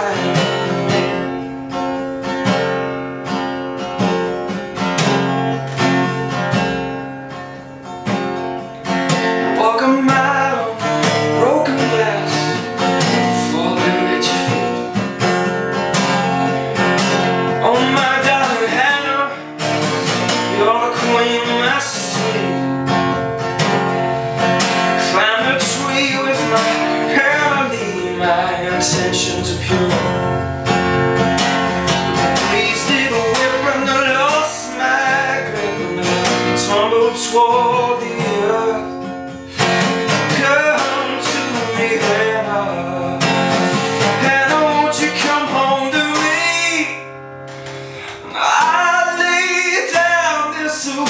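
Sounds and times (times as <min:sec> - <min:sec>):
acoustic guitar strumming: 0:00.0 - 0:51.0
bending guitar melody: 0:00.0 - 0:51.0.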